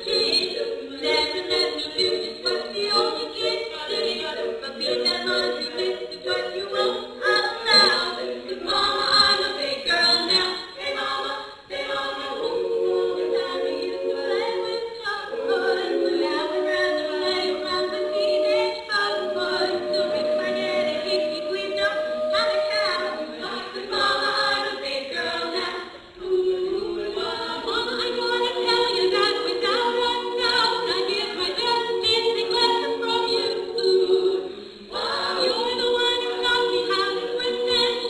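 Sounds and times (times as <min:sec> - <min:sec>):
women singing in harmony: 0:00.0 - 0:38.0.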